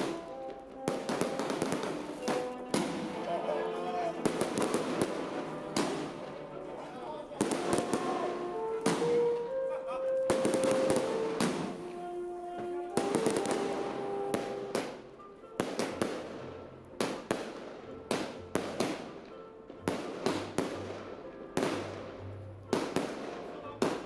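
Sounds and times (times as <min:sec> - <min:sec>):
fireworks bangs crackling: 0:00.0 - 0:24.0.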